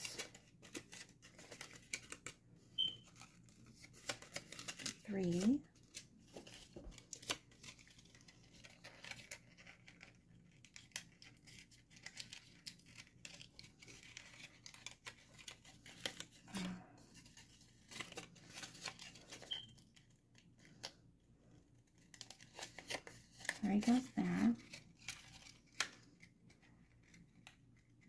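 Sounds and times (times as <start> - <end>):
paper tabs crackling and clicking: 0.0 - 21.0, 21.8 - 28.0
cardstock crinkling and rustling: 0.0 - 28.0.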